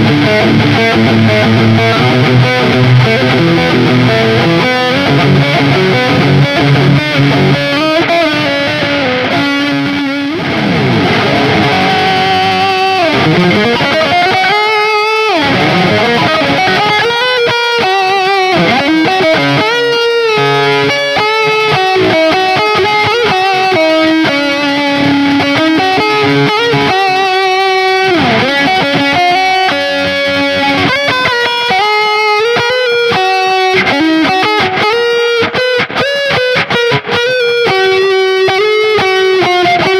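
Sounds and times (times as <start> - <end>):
distorted electric guitar lead: 0.0 - 39.9.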